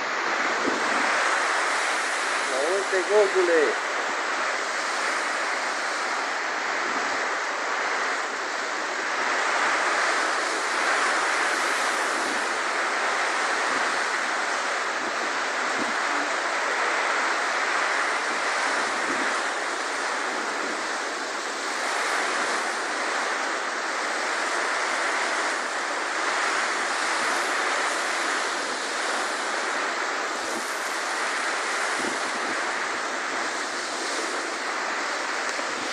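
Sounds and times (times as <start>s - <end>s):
torrential rain: 0.0s - 35.9s
wind: 0.0s - 35.9s.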